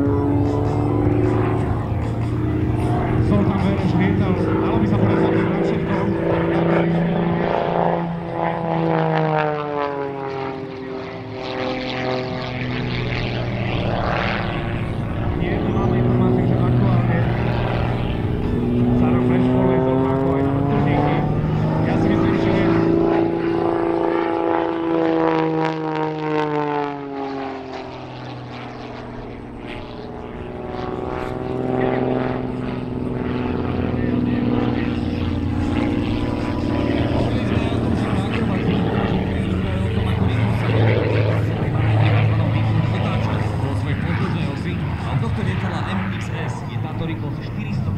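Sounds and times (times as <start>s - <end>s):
plane engine and propeller droning: 0.0s - 47.9s.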